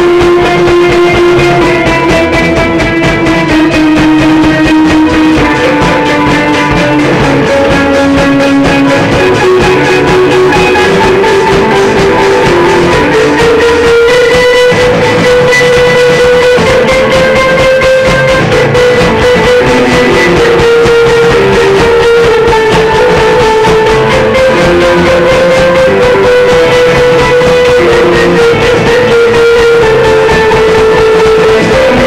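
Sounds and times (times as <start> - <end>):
guitar playing held notes: 0.0 - 32.0
live jam music: 0.0 - 32.0.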